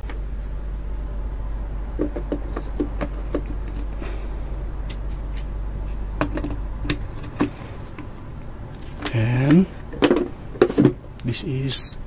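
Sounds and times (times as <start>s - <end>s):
low hum: 0.0s - 11.3s.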